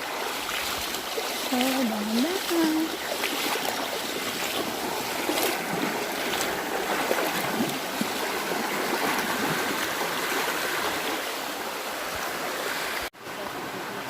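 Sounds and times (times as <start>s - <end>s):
splashes from wading: 0.0s - 13.8s
creek water rushing over rocks: 0.0s - 14.0s.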